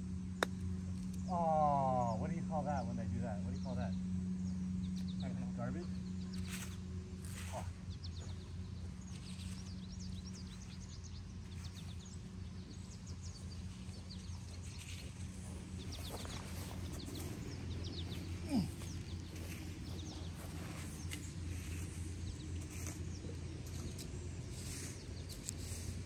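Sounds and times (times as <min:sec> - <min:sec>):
low hum: 0:00.0 - 0:26.0
birds chirping: 0:00.3 - 0:26.0.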